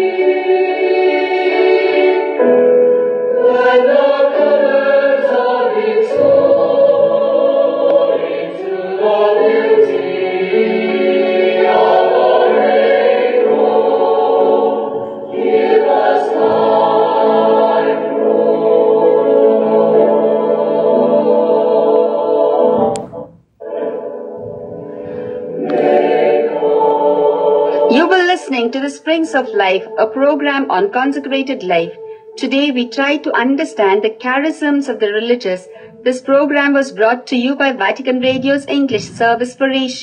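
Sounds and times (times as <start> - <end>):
choir singing long held notes: 0.0 - 33.7.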